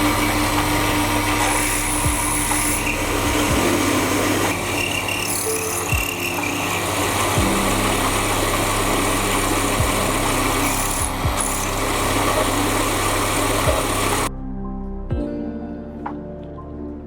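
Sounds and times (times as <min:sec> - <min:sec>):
power tool whirring: 0:00.0 - 0:14.3.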